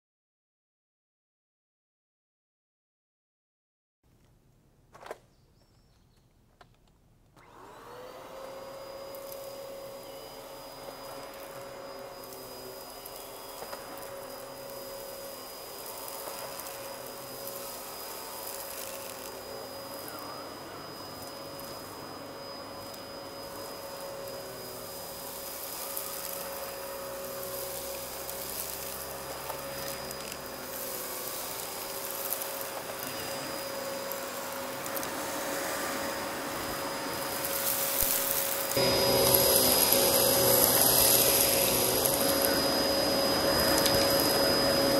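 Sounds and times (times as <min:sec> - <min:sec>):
vacuum cleaner running on carpet: 0:07.4 - 0:44.9.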